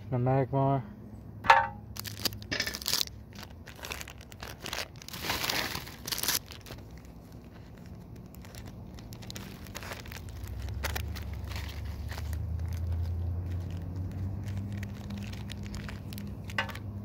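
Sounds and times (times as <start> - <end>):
foil wrapper crinkling and tearing: 1.9 - 17.0
faint low rumble: 3.3 - 17.0.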